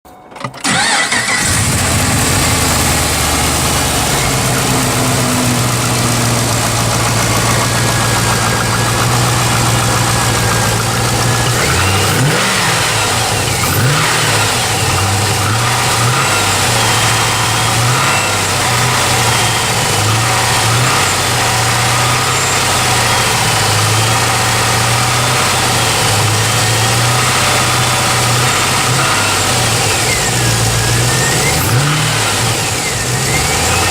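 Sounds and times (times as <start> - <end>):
car engine idling and revving: 0.4 - 33.9
engine knock: 0.7 - 31.6.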